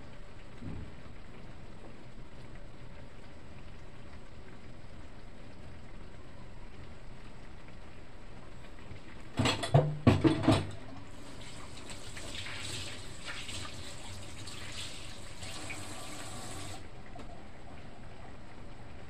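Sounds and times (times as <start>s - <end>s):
stew simmering: 0.0s - 19.0s.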